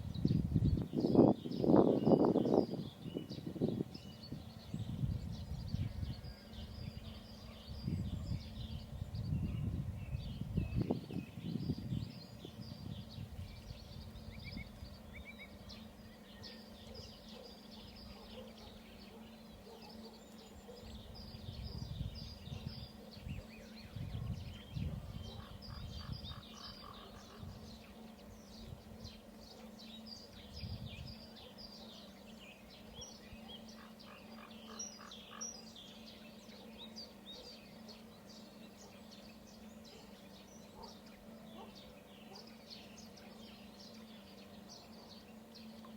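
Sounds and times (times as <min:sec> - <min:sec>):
small birds chirping and singing: 0:00.0 - 0:45.9.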